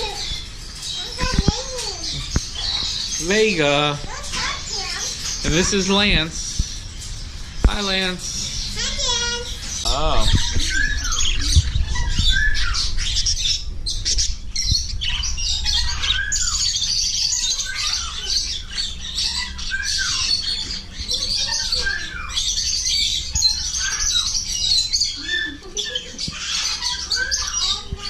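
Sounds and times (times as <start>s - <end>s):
caged birds chattering and squawking: 0.0s - 28.0s.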